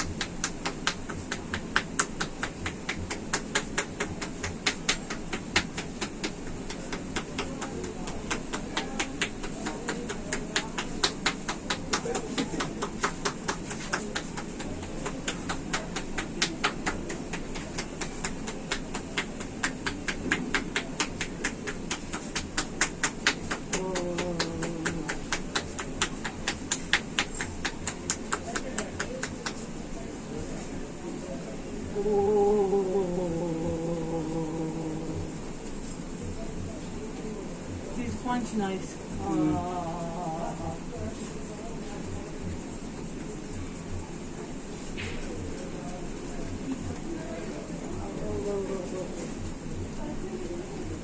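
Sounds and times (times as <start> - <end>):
hands slapping on head: 0.0 - 45.7.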